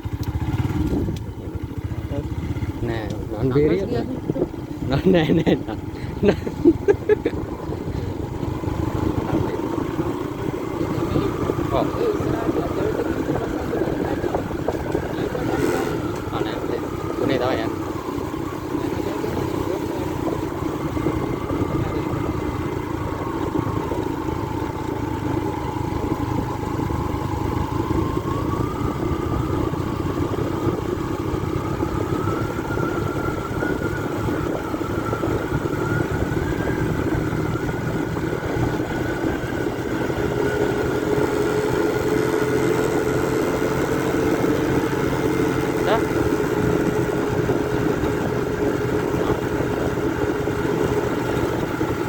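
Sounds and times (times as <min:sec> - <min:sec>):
motorbike engine running: 0:00.0 - 0:52.0.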